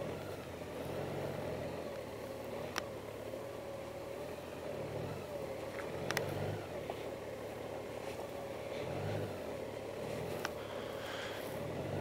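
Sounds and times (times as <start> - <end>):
motorcycle engine running: 0.0 - 12.0
tires on gravel: 0.0 - 12.0.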